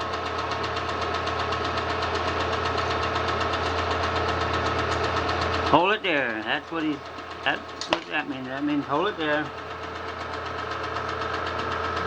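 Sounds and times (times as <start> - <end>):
film projector running: 0.0 - 12.0.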